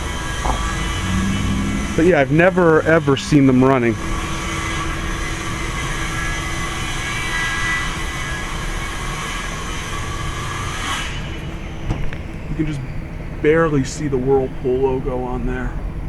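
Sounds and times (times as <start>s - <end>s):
mechanical rumble with rushing hiss: 0.0s - 16.0s.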